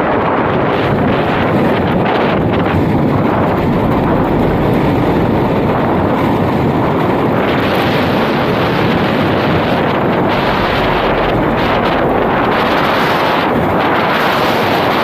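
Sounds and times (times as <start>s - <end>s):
wind buffeting microphone: 0.0s - 15.0s
longboard wheels rolling on asphalt: 1.0s - 15.0s.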